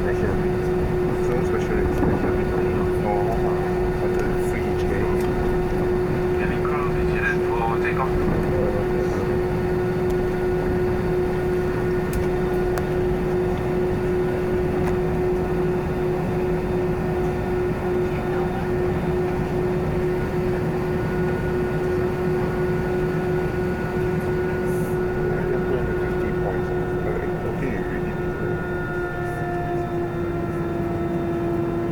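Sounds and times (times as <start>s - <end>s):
airplane cabin rumble: 0.0s - 31.9s.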